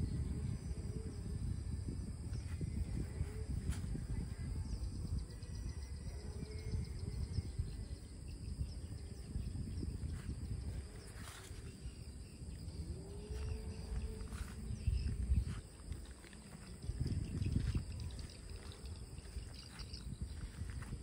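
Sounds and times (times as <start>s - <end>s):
constant low rumble: 0.0s - 21.0s
insects droning: 0.0s - 21.0s.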